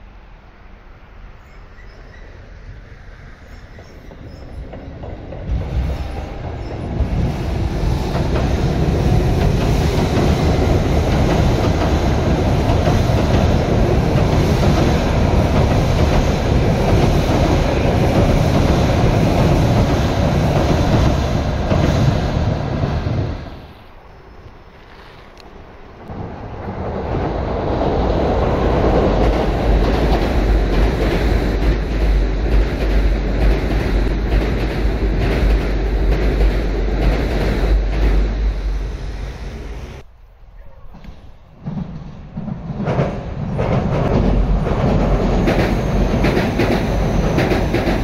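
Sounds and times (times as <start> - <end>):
train rumbling over steel bridge: 0.0 - 48.0.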